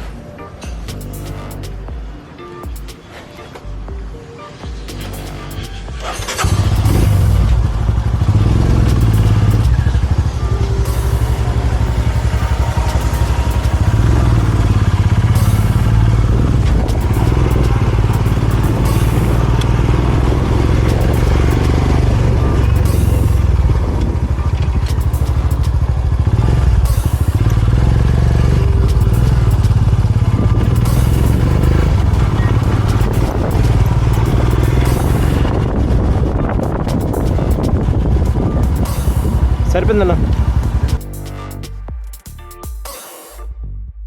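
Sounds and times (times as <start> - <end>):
motorcycle engine running: 4.7 - 42.0.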